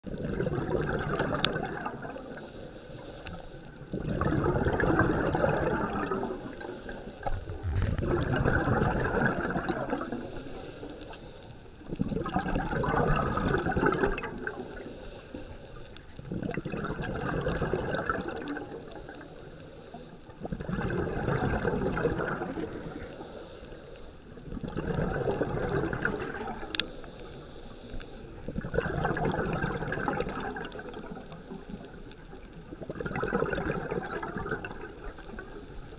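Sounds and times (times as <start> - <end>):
exhaled bubbles rushing underwater: 0.0 - 19.4, 20.0 - 23.6, 24.3 - 27.3, 28.3 - 35.9.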